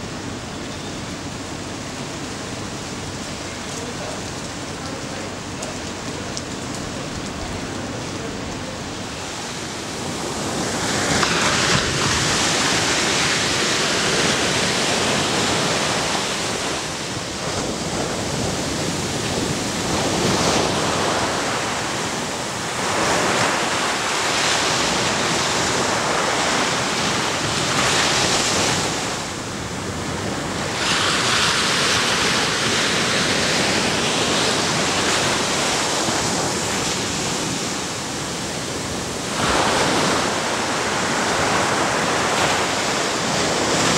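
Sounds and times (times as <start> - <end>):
ocean surf breaking on beach: 1.1 - 43.9.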